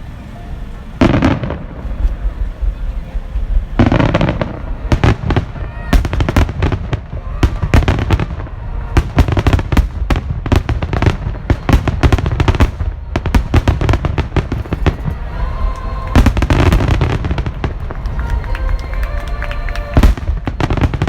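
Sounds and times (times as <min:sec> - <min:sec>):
deep rumble: 0:00.0 - 0:21.0
fireworks bangs and crackling: 0:00.0 - 0:21.0.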